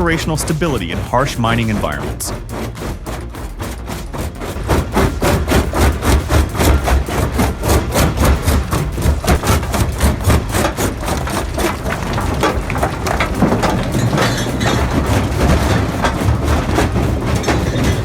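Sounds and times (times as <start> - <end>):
jaw crusher crushing rock: 0.0 - 18.0.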